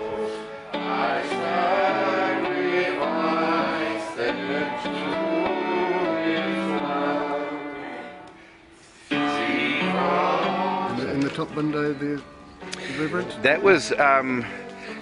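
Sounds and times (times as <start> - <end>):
music with held notes: 0.0 - 15.0.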